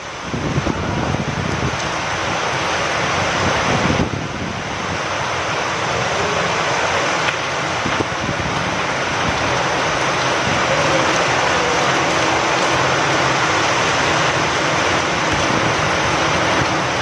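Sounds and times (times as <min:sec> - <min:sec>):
rain falling with wind: 0:00.0 - 0:17.0.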